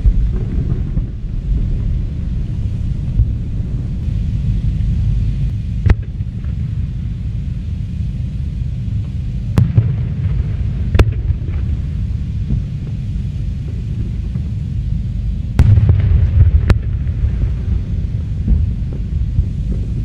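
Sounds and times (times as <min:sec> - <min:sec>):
fireworks rumbling: 0:00.0 - 0:20.0.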